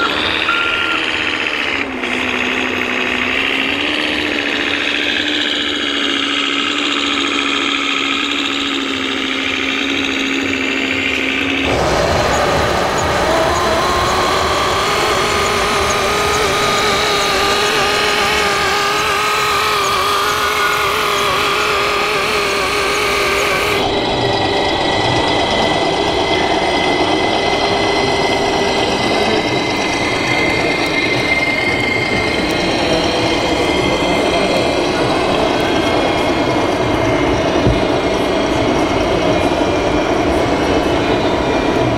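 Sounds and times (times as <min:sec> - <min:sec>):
high whine: 0:00.0 - 0:41.9
model trucks mechanical hum: 0:00.0 - 0:41.9.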